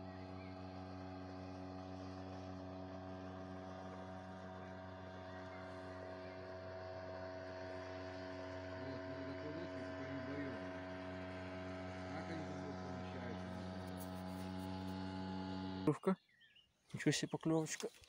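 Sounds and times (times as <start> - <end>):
motorboat engine droning: 0.0 - 16.6.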